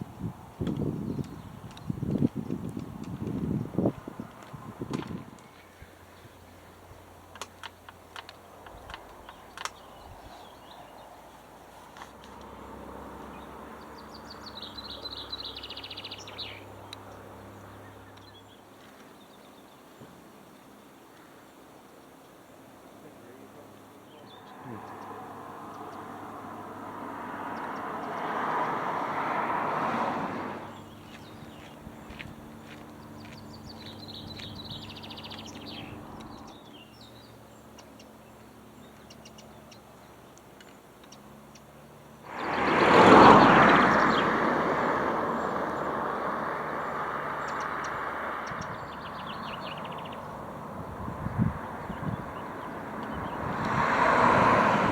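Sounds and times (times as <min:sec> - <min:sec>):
songbird twittering and trilling: 0:00.0 - 0:29.1, 0:30.6 - 0:54.9
low engine hum: 0:00.0 - 0:54.9
small birds chirping: 0:00.0 - 0:54.9.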